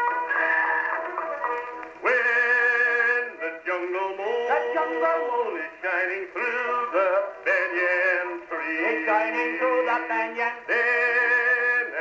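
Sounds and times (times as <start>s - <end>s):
musical accompaniment: 0.0s - 12.0s
man singing: 2.0s - 12.0s.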